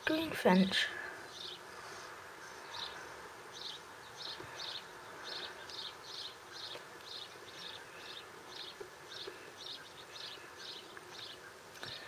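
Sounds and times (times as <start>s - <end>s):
steady outdoor hiss: 0.0s - 12.0s
small bird chirping: 1.2s - 12.0s.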